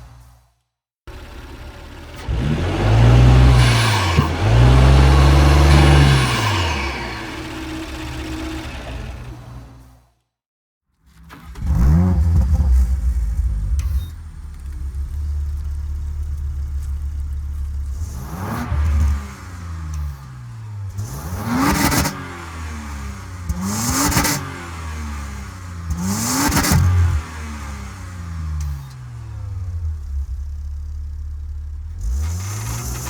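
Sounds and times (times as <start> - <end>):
car engine idling and revving: 0.0 - 0.5, 1.1 - 10.1, 11.1 - 33.0.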